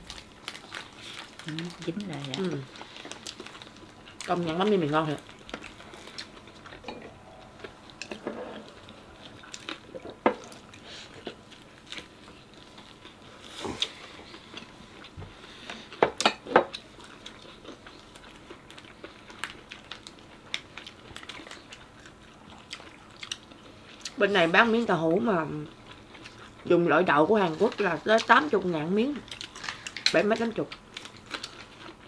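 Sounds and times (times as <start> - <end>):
people chewing and biting: 0.0 - 24.2, 29.2 - 30.1, 30.7 - 32.0.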